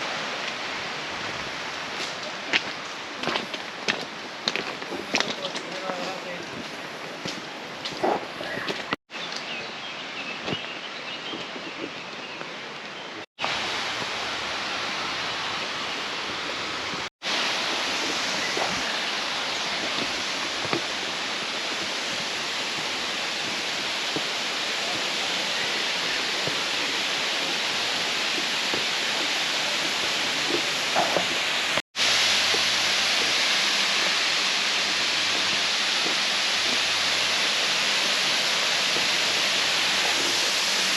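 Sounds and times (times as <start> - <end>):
rushing waterfall: 0.0 - 40.9.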